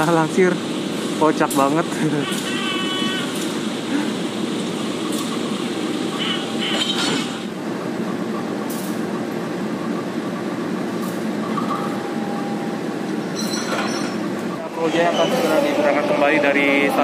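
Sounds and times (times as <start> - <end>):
diesel locomotive rumbling: 0.0 - 17.0.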